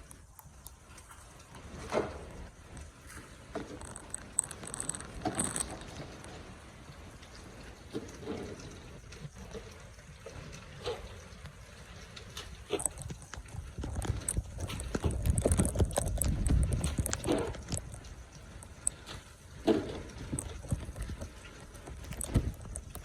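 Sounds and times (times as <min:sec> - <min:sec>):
watery wash of slushy street: 0:00.0 - 0:23.0.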